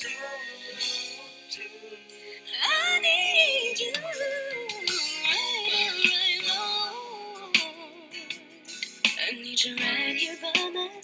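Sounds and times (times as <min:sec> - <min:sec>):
woman singing a ballad: 0:00.0 - 0:11.0.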